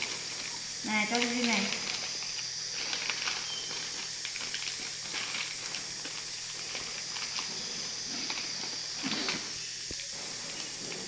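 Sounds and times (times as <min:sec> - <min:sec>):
background hiss: 0:00.0 - 0:11.0
plastic packets crinkling: 0:00.0 - 0:11.0.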